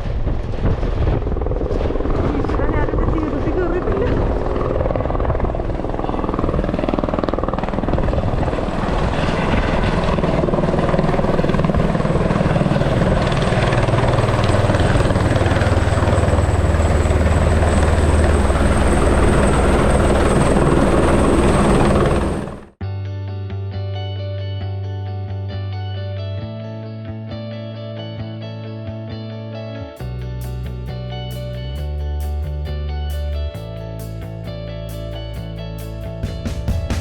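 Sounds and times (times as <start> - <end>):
helicopter running: 0.0 - 22.8, 30.0 - 37.0.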